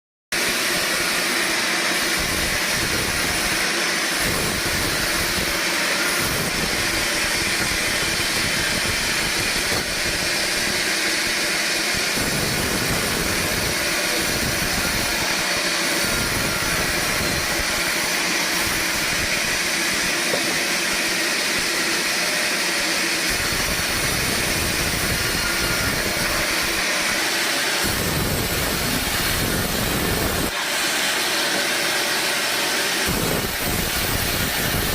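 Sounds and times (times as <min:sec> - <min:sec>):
sawmill sawing logs: 0:00.4 - 0:34.9.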